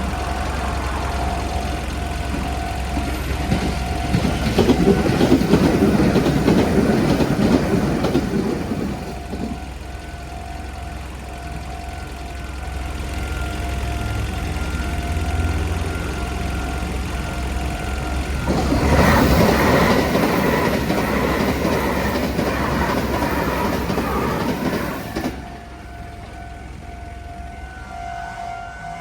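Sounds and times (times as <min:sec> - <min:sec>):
train rushing past: 0:00.0 - 0:10.7, 0:13.8 - 0:29.0
level-crossing warning bell: 0:00.0 - 0:29.0.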